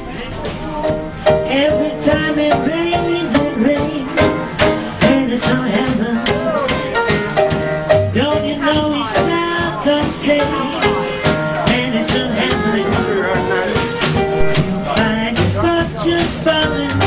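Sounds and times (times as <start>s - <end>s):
background music with beat: 0.8s - 17.0s.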